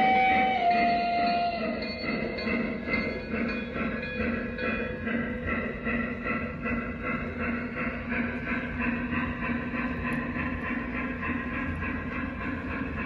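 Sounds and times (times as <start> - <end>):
model train cars rolling on track: 0.0 - 13.0.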